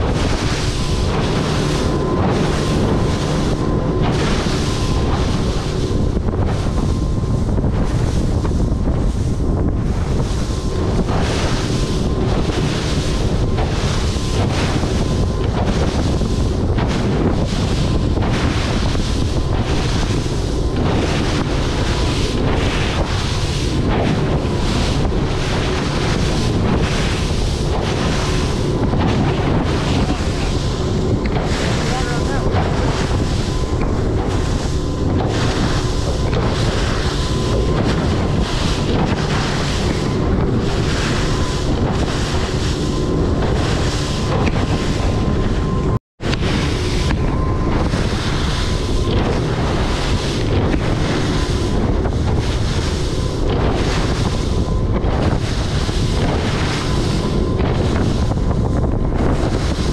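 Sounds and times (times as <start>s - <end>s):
boat running through choppy water: 0.0s - 59.9s
wind buffeting microphone: 0.0s - 59.9s
spray and wave hits: 7.8s - 58.4s.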